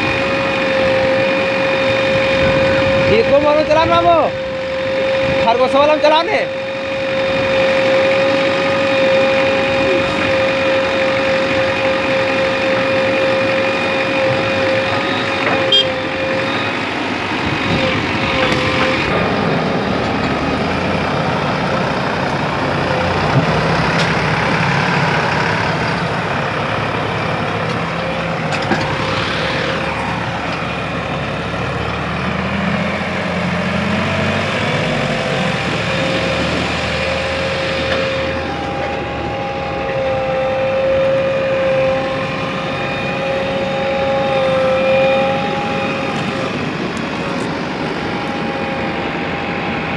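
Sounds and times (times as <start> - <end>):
backhoe diesel engine working: 0.0 - 49.9
steady high whine: 0.0 - 49.9.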